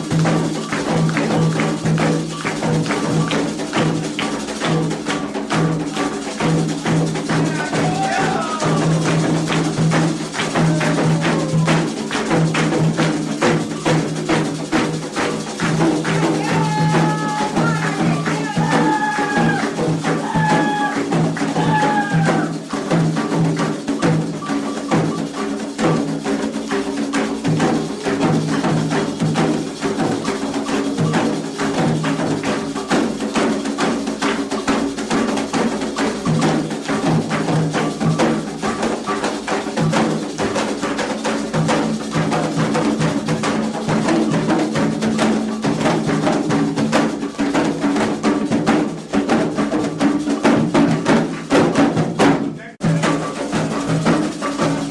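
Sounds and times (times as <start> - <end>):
bell-like clack: 0.0 - 52.0
hand drums beaten fast: 0.0 - 54.9.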